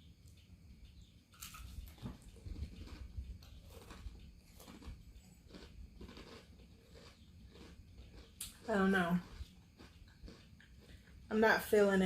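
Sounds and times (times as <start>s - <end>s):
chewing crunchy chips: 0.3s - 11.4s.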